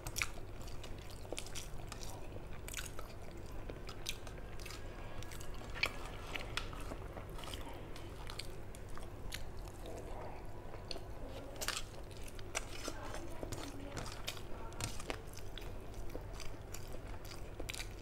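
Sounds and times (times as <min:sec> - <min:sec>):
chewing with mouth clicks: 0:00.0 - 0:18.0.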